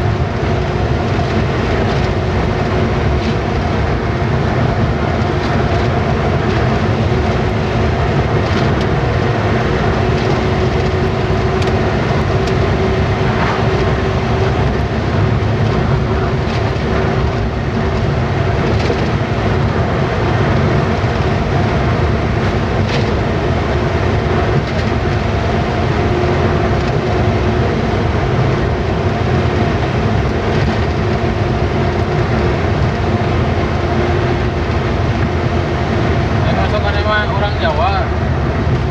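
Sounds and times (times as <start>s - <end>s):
road rumble: 0.0s - 38.9s
truck engine drone: 0.0s - 38.9s.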